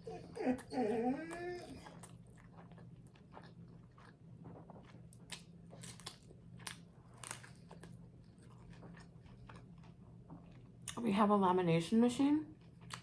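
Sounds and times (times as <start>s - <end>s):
low steady hum: 0.0s - 13.0s
chewing crunchy bread: 0.1s - 11.0s, 12.4s - 13.0s.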